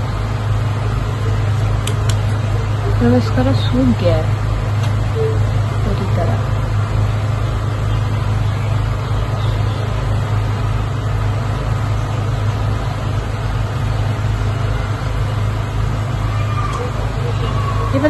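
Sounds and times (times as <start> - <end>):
constant rushing noise: 0.0 - 18.0
steady low hum: 0.0 - 18.0.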